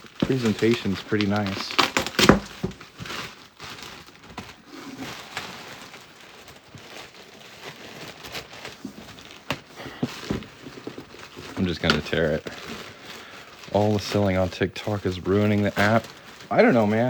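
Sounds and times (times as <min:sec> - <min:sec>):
cardboard packaging crinkling: 0:00.0 - 0:17.0.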